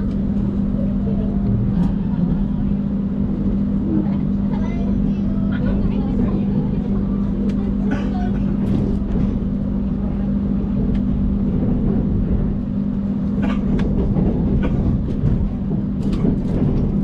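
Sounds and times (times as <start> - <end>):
train carriage rumble and hum: 0.0 - 17.0.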